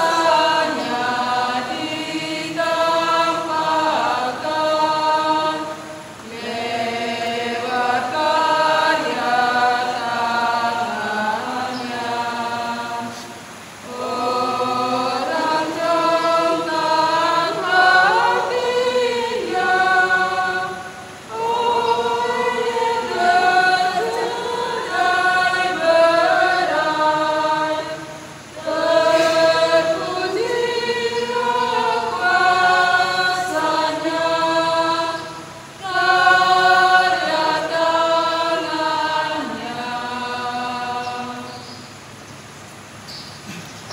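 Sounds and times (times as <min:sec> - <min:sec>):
church choir singing: 0:00.0 - 0:42.2.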